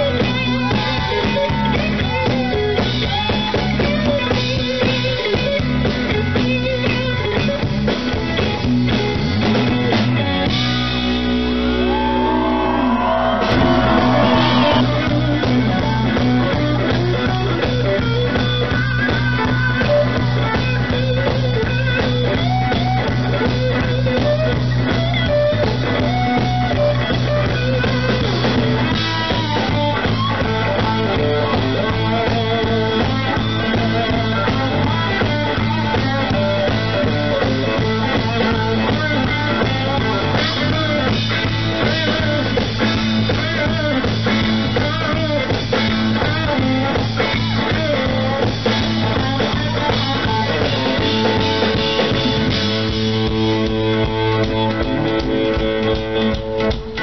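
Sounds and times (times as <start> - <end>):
bass: 0.0 - 57.0
drums: 0.0 - 57.0
electric guitar lead: 0.0 - 57.0.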